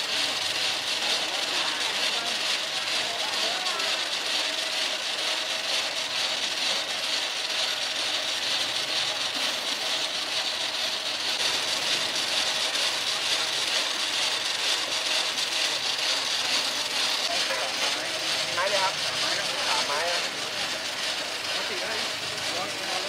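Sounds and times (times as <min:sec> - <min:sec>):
chain drive rattling: 0:00.0 - 0:23.0.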